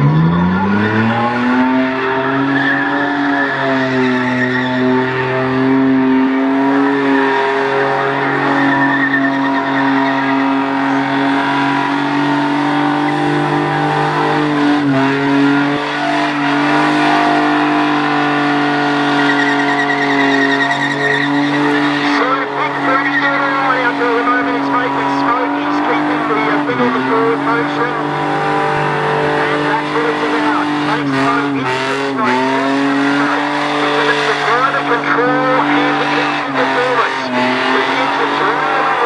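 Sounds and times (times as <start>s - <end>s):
car engine at high revs: 0.0s - 39.0s
tyres squealing and skidding: 0.0s - 39.0s.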